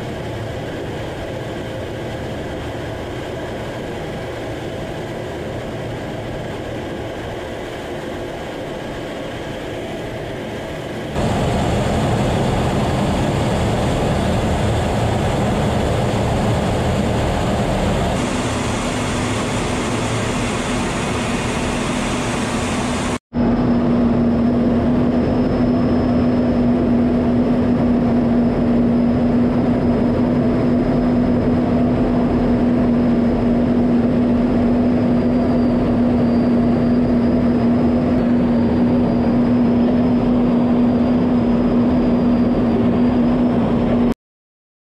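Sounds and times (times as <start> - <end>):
steady low hum: 0.0 - 44.1
jet aircraft cockpit rushing noise: 0.0 - 44.2.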